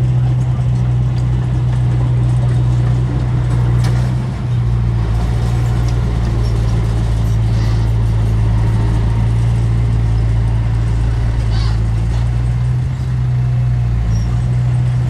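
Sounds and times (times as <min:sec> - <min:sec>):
heavy machinery diesel engine running: 0:00.0 - 0:15.0.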